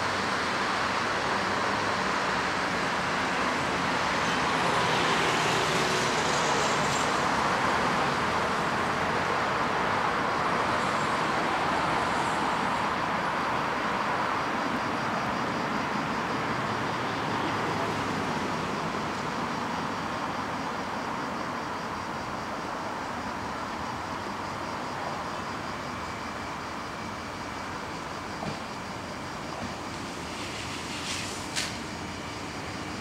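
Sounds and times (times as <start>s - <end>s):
city traffic rumble: 0.0s - 33.0s.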